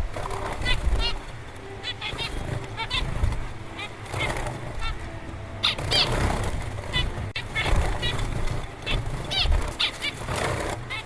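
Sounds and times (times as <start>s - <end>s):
parrot calling: 0.3s - 11.0s.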